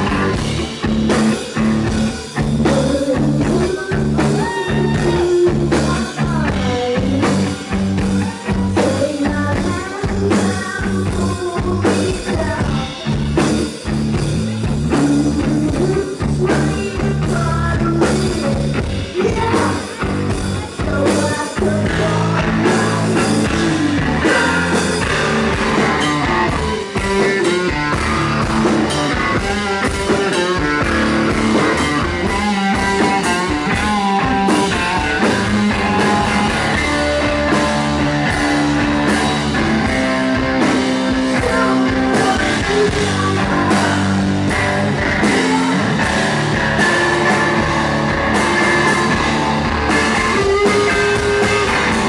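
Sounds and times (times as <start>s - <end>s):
person singing: 0.0s - 13.9s, 14.7s - 52.0s
drum kit: 0.0s - 52.0s
electric guitar: 0.0s - 52.0s.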